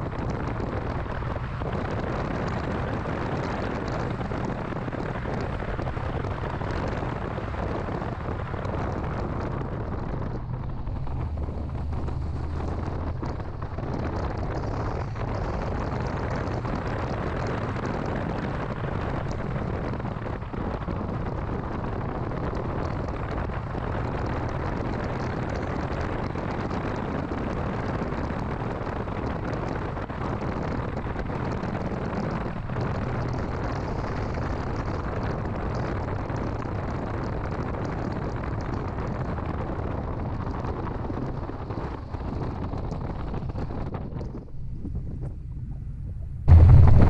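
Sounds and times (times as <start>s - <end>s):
car engine hum: 0.0s - 47.0s
road noise: 0.0s - 47.0s
wind rushing over microphone: 0.0s - 47.0s.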